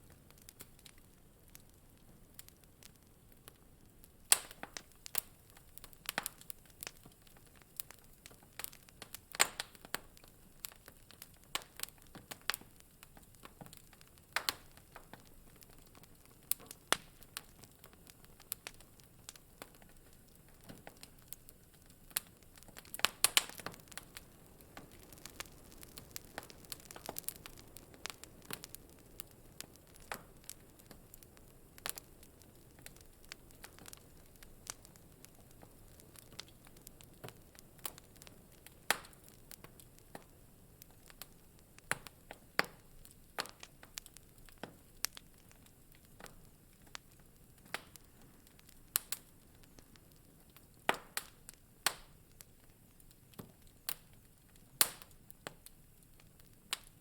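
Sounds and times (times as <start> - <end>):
soft steady hiss: 0.0 - 57.0
wood fire popping and snapping: 0.0 - 57.0.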